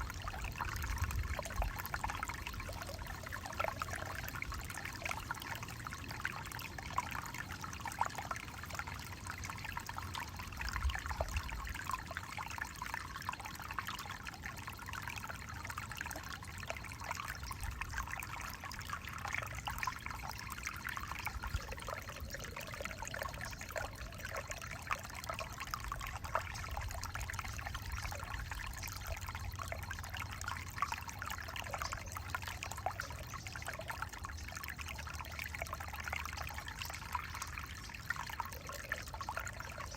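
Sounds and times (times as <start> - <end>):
creek babbling: 0.0 - 39.9.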